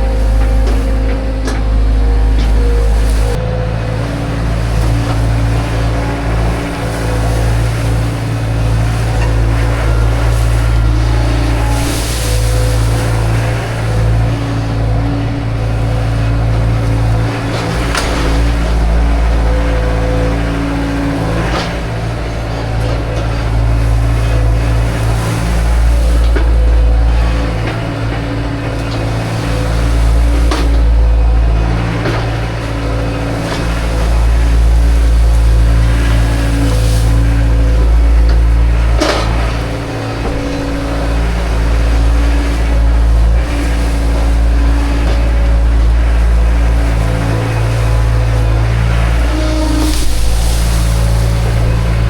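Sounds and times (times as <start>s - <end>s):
telehandler engine running: 0.0s - 52.0s.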